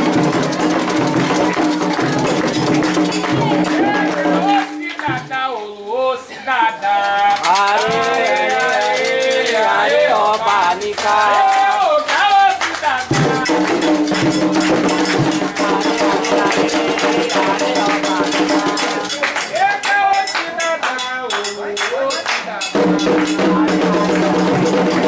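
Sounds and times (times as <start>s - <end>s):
rattles shaken in rhythm: 0.0s - 5.3s, 6.9s - 25.0s
voices singing a chant: 0.0s - 25.0s.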